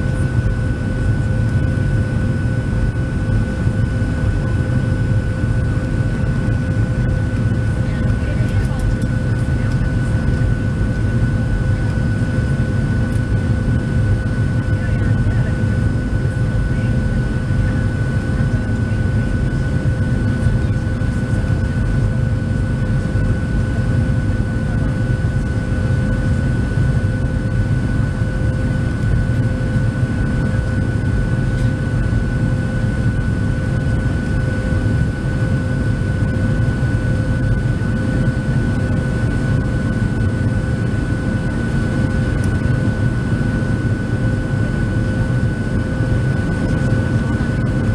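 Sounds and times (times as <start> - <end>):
aircraft cabin rumble: 0.0 - 47.9
jet engine whine: 0.0 - 47.9.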